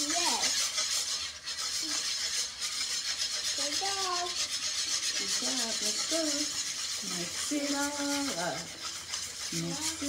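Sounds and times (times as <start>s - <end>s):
whisk scraping batter in a pan: 0.0s - 10.0s.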